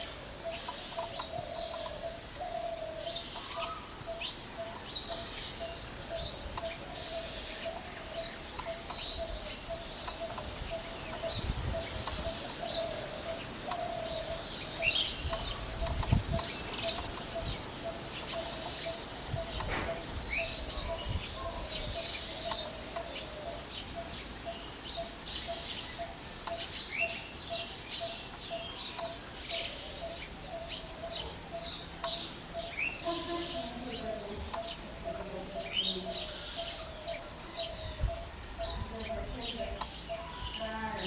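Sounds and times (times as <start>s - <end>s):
birds chirping and twittering: 0.0s - 41.0s.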